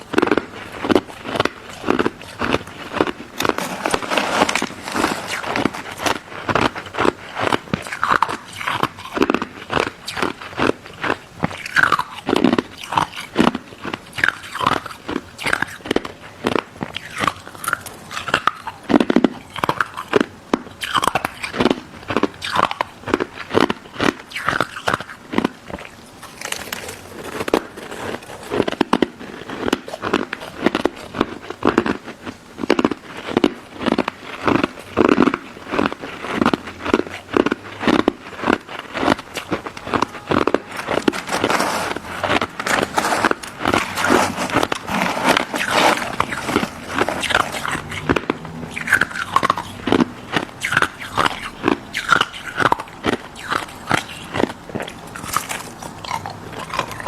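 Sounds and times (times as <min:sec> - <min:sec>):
crunching and chewing ice dessert: 0:00.0 - 0:57.0.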